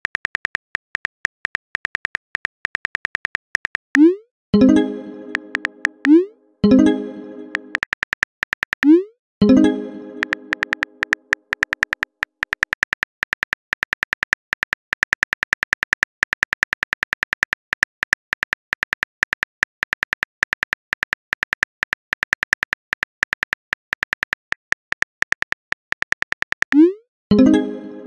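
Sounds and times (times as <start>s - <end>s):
rapid keyboard clicks: 0.0s - 4.0s, 5.3s - 6.2s, 7.5s - 9.0s, 10.2s - 26.8s.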